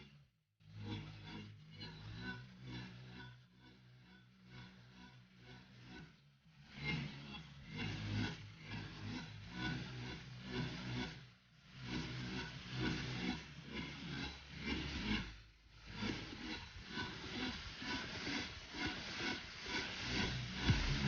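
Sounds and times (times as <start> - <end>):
trance music: 0.0 - 21.0.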